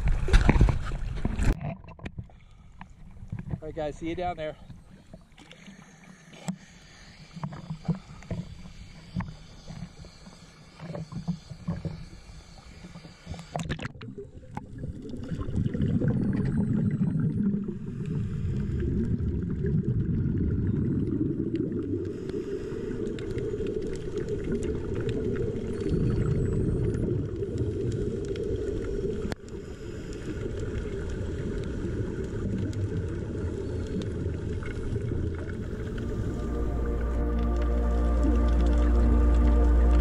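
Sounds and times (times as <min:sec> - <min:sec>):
muffled underwater rumble: 0:00.0 - 0:40.0.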